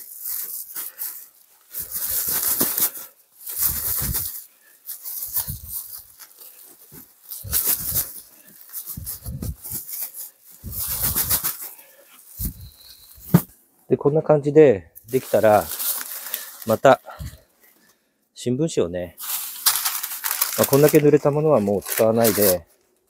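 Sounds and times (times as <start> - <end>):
woven sacks rustling: 0.0 - 13.5, 15.1 - 17.4, 19.2 - 22.7.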